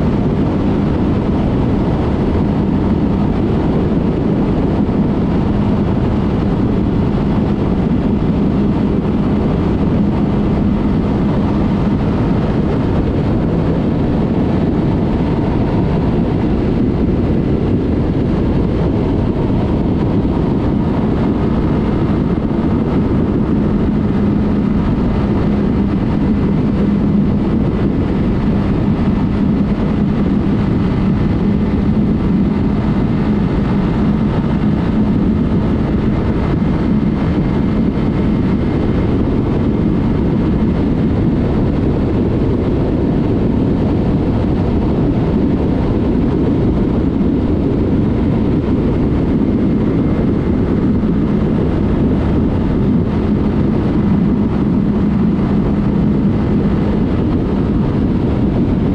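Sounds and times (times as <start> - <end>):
motorcycle engine humming: 0.0 - 58.9
wind rush on microphone: 0.0 - 58.9.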